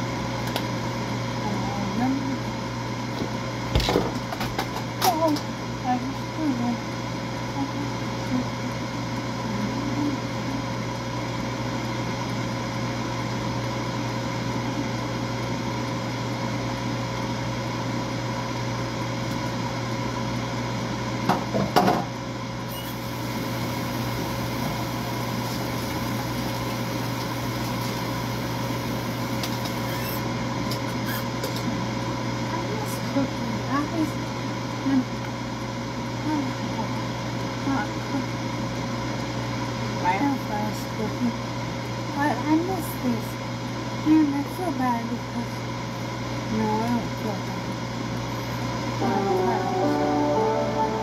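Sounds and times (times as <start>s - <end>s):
air fryer fan humming: 0.0s - 51.0s.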